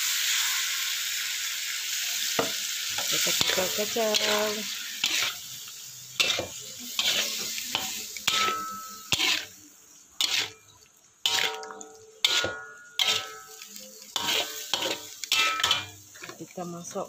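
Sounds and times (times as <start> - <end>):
food sizzling: 0.0 - 17.0
metal spatula scraping wok: 2.2 - 17.0.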